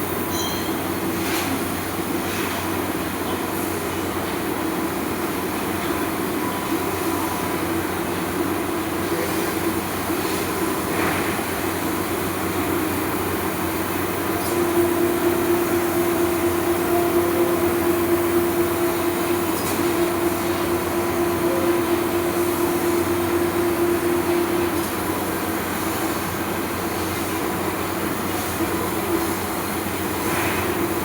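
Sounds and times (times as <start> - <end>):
laser cutting machine running: 3.0 - 31.0.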